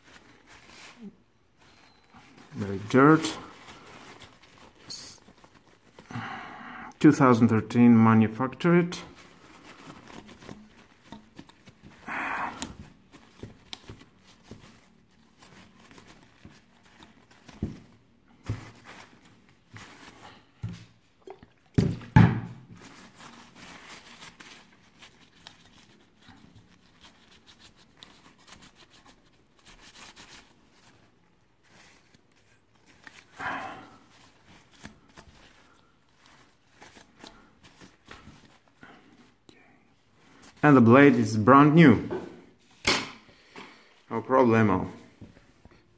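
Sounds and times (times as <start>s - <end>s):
paper tissue rustling: 0.0s - 21.2s, 22.6s - 45.9s.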